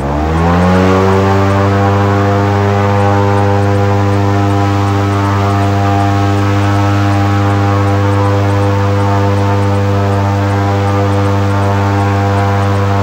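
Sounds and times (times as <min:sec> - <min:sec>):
airboat engine and propeller: 0:00.0 - 0:13.0.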